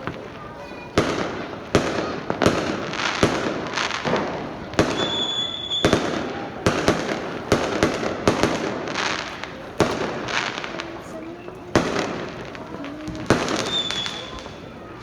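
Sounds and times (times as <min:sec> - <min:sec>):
fireworks crackle: 0:00.0 - 0:15.0
fireworks loud bangs: 0:00.0 - 0:15.0.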